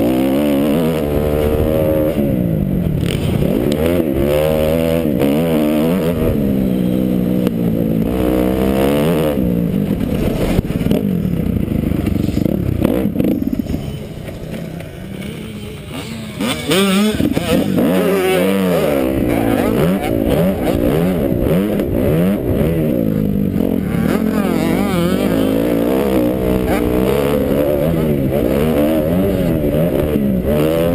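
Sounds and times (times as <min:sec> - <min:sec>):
motocross engine revving: 0:00.0 - 0:30.9.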